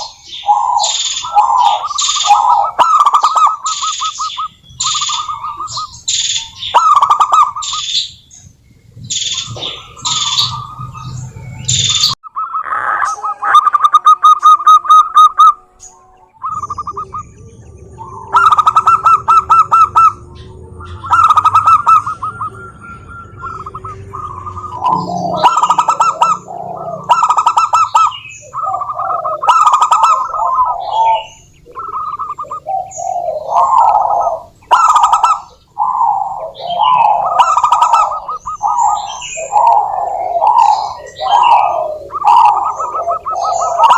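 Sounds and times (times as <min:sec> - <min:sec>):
dove cooing: 0:00.0 - 0:08.1, 0:09.0 - 0:43.9
bird chirping: 0:00.0 - 0:43.9.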